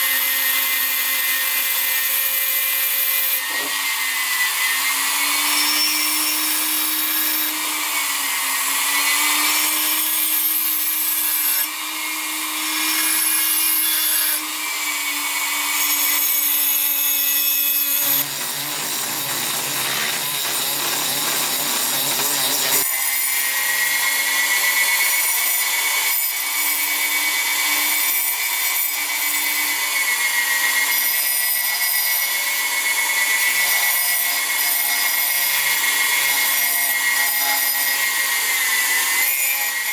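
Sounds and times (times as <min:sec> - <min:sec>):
power tool grinding steel: 0:00.0 - 0:39.9.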